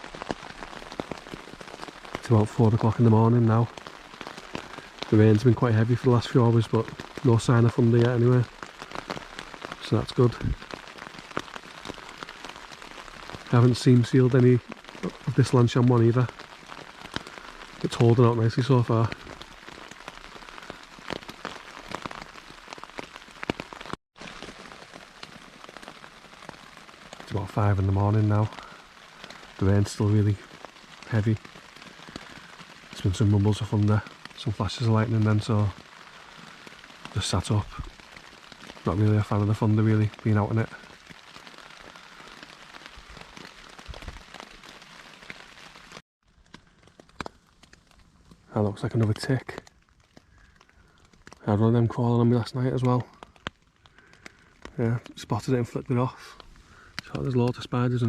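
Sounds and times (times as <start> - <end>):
heavy rain on a tent: 0.0 - 58.0
raindrops hitting fabric: 0.0 - 58.0.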